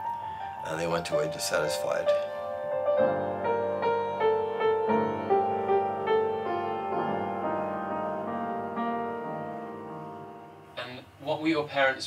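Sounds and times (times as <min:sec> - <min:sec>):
gentle piano melody: 0:00.0 - 0:11.5.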